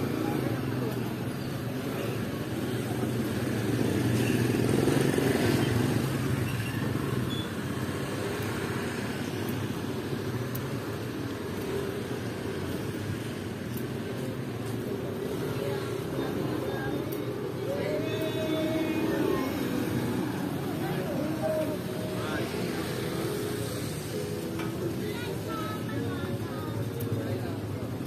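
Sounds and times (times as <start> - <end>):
cars passing: 0.0 - 28.0
motorcycles passing: 0.0 - 28.0.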